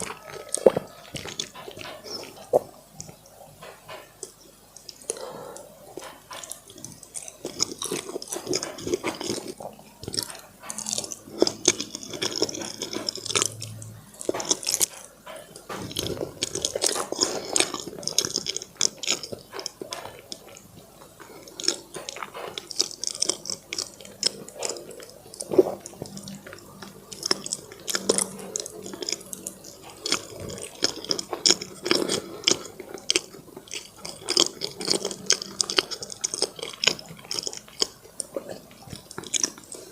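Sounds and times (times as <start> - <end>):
person chewing with mouth clicks: 0.0 - 39.9.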